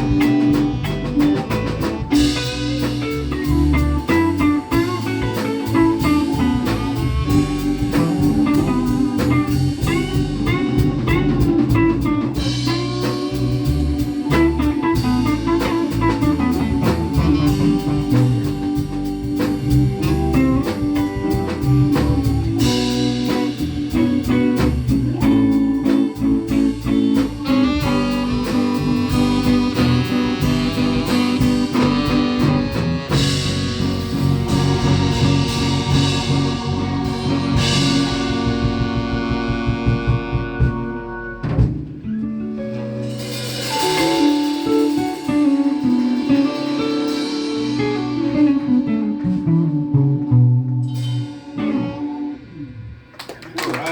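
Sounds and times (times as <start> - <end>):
guitar lead with bent notes: 0.0 - 53.2
blues band playing: 0.0 - 53.9.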